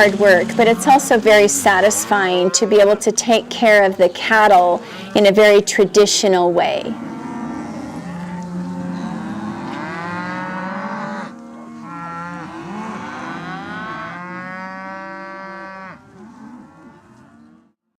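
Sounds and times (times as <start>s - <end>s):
cattle mooing: 0.0s - 6.0s, 6.8s - 17.7s.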